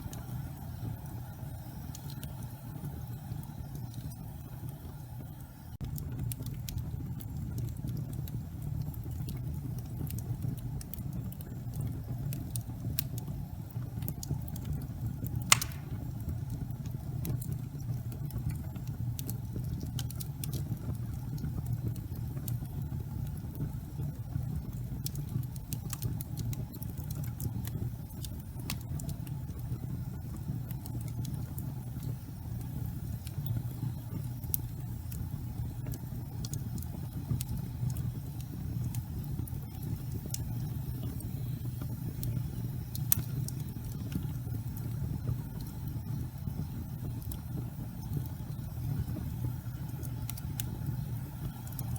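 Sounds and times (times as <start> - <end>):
fire crackling and popping: 0.0 - 51.9
fire rumbling in fireplace: 0.0 - 51.9.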